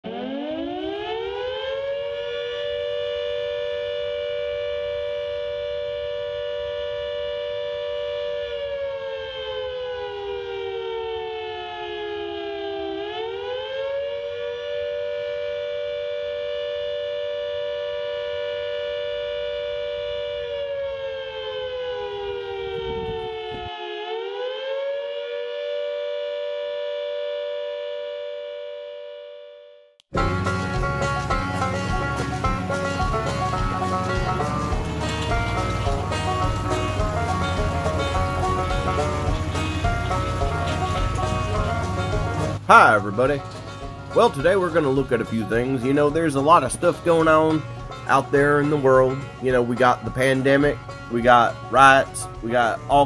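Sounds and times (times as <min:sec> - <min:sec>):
siren wailing: 0:00.0 - 0:29.5, 0:30.2 - 0:53.0.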